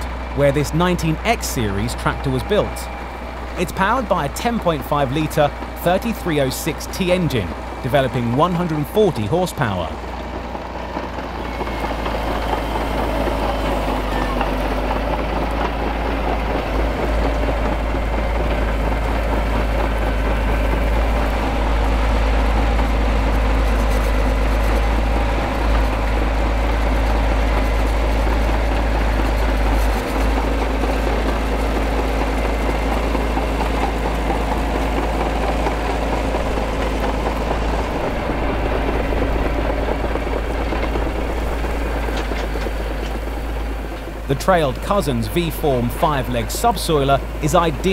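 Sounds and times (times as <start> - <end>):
diesel crawler engine under load: 0.0 - 47.9.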